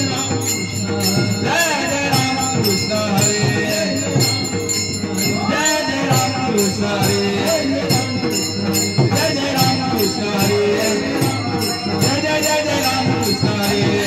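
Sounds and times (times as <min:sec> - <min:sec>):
hand cymbals clashing: 0:00.0 - 0:14.0
man singing: 0:00.0 - 0:14.0.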